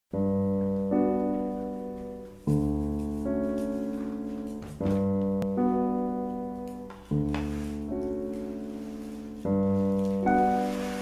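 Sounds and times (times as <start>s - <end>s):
slow piano chords: 0.1s - 11.0s.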